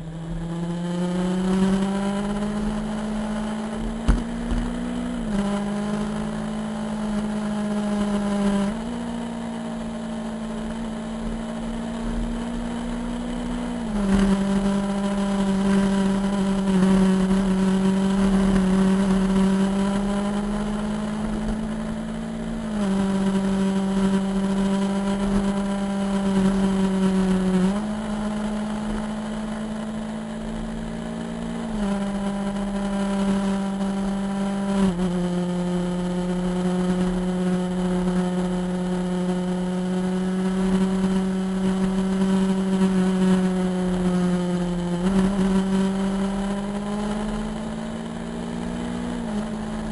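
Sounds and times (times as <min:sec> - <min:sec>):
motorcycle engine cruising: 0:00.0 - 0:49.9.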